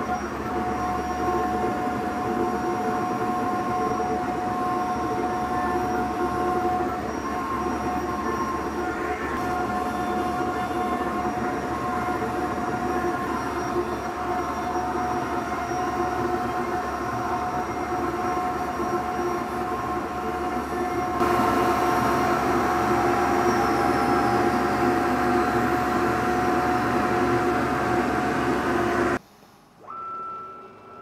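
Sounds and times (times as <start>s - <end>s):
cnc router spindle cutting: 0.0s - 29.2s
dust collector running: 0.0s - 29.2s.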